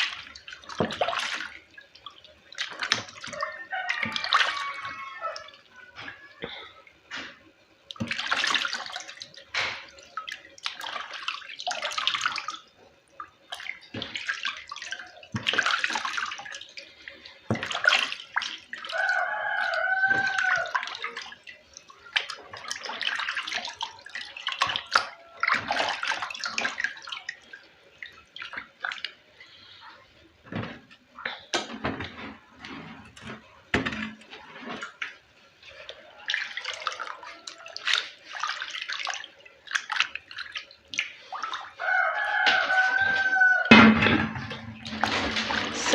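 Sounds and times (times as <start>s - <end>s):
water splashing and sloshing: 0.0s - 45.9s.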